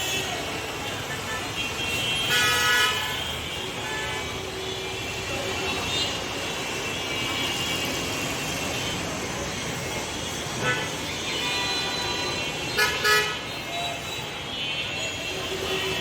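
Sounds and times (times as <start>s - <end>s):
traffic engines din: 0.0s - 16.0s.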